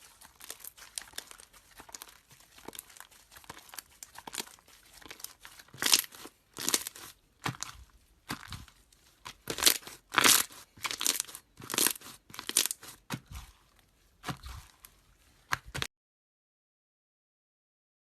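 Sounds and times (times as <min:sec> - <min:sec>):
slime squishing by hand: 0:00.0 - 0:15.9.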